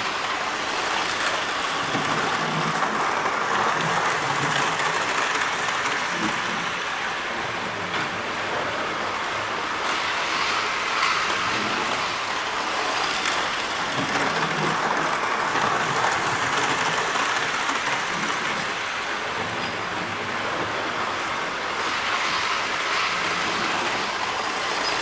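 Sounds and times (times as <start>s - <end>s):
model train rolling on track: 0.0s - 25.0s.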